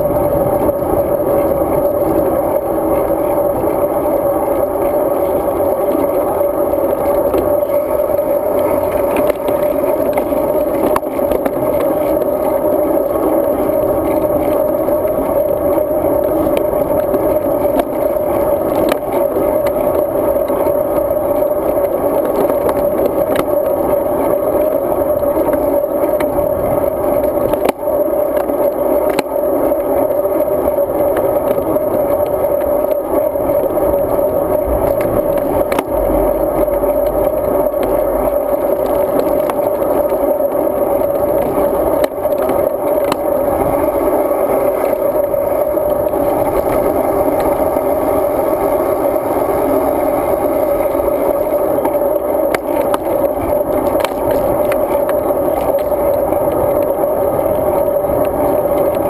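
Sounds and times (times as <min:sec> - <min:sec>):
road bike riding noise: 0:00.0 - 0:59.0
faint clicks and rattles: 0:00.1 - 0:59.0.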